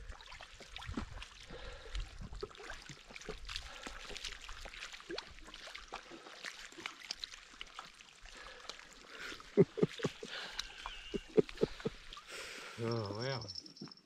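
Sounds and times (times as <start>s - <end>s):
small water splashes and drips: 0.0s - 13.5s.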